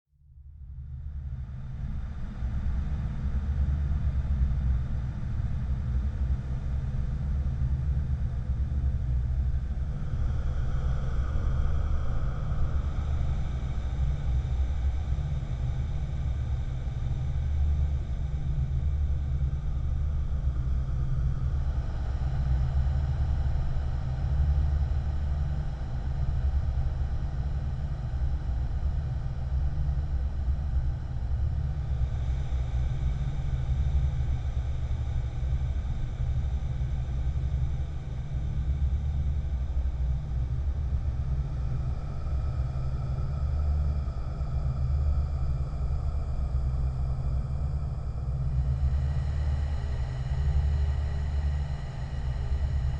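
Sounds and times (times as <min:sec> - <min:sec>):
deep ambient drone rumble: 0:00.4 - 0:52.9
faint airy whispery tones: 0:08.4 - 0:52.9.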